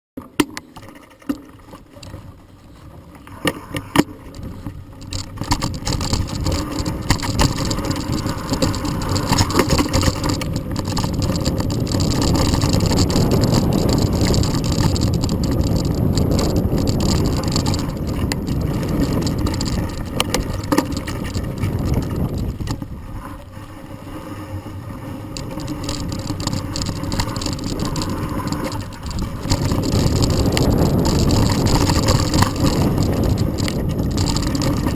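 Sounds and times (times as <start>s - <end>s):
bike rattling: 0.2s - 34.9s
bike tyres rumbling over dirt: 0.2s - 34.9s.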